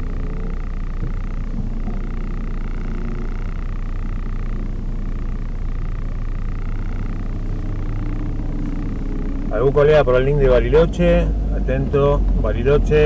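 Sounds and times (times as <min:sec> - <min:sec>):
car idling rumble: 0:00.0 - 0:13.0
faint wavering hum: 0:00.0 - 0:13.0.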